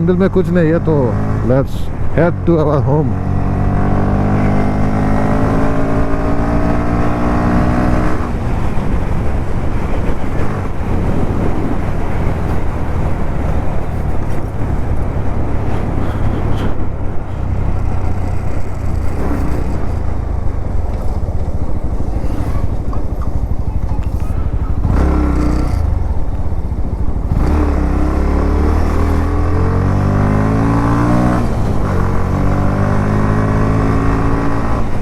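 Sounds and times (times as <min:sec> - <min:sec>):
motorcycle engine accelerating: 0:00.0 - 0:35.0
wind and road noise: 0:00.0 - 0:35.0.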